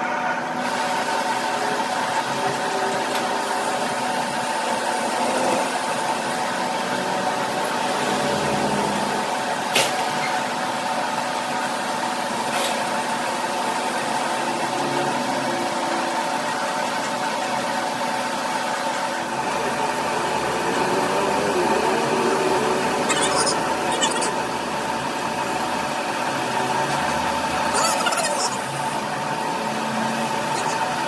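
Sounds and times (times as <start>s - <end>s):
machine hum with held tones: 0.0s - 31.0s.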